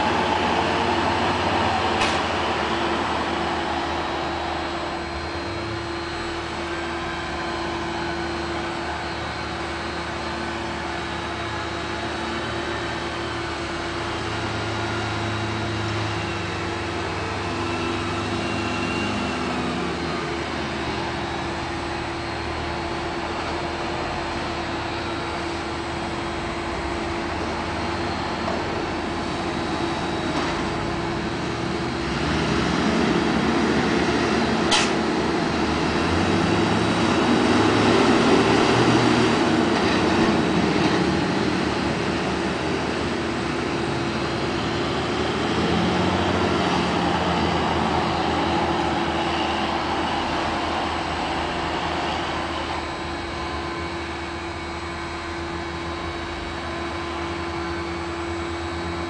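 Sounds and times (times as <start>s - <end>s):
tractor diesel engines running: 0.0s - 59.0s.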